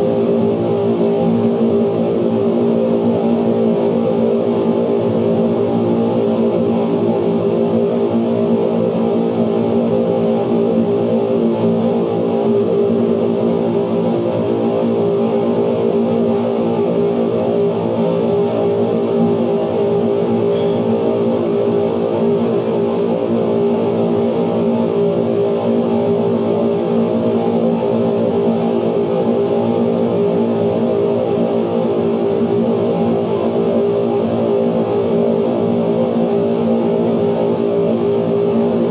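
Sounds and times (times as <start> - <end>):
dense noise drone: 0.0 - 38.9.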